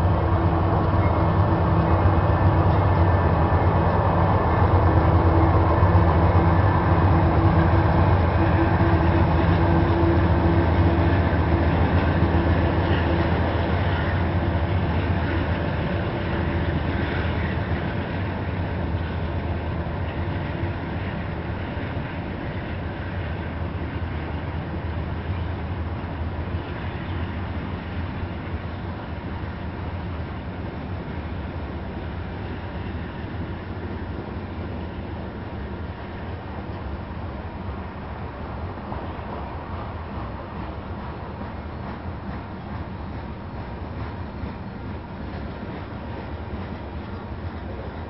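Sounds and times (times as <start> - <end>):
diesel locomotive engine hum: 0.0 - 48.0
steel wheels rumbling on rail: 0.0 - 48.0.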